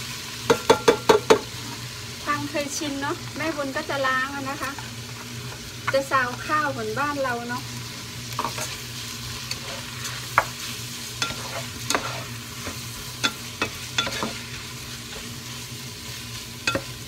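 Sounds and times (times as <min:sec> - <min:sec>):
rice and vegetables sizzling: 0:00.0 - 0:17.0.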